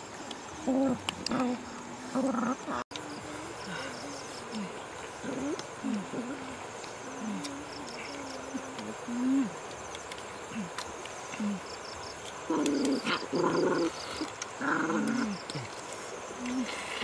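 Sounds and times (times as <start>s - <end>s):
low vocal hums and whines: 0.2s - 9.8s, 10.4s - 17.0s.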